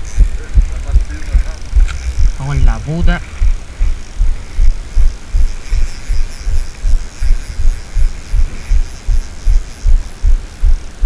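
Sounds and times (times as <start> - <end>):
low thumps on microphone: 0.0 - 10.9.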